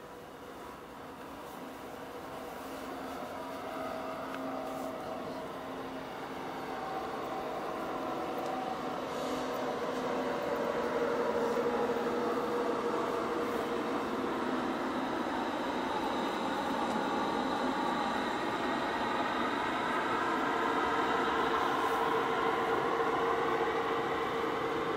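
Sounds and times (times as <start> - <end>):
electric locomotive hum: 0.0 - 24.9
train wheels rumbling on rails: 1.4 - 24.9.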